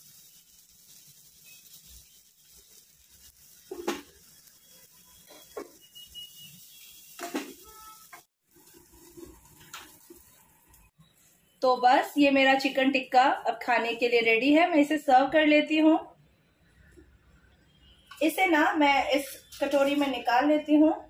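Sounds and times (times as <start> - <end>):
faint sizzling: 0.0 - 15.4, 16.2 - 21.0.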